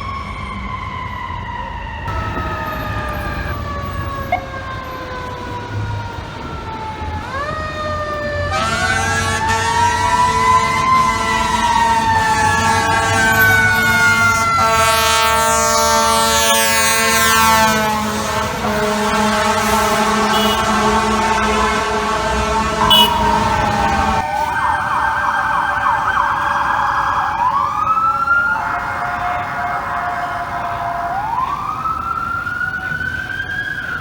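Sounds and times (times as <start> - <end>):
fire truck siren wailing: 0.0 - 34.0.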